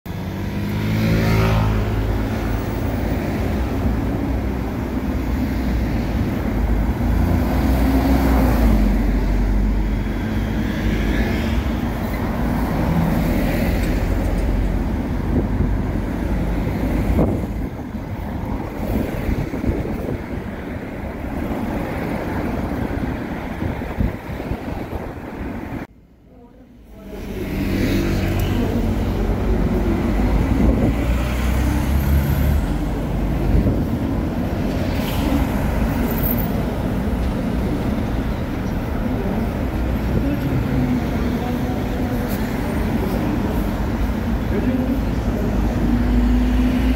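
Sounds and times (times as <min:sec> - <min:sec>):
traffic engine and tyre rumble: 0:00.0 - 0:46.9.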